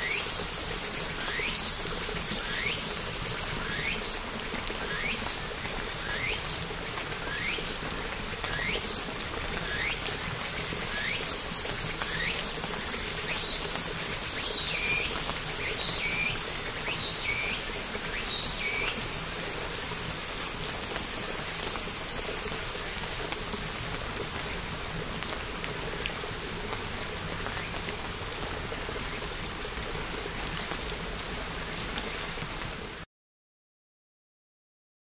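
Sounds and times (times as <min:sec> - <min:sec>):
light rain on paving and foliage: 0:00.0 - 0:33.1.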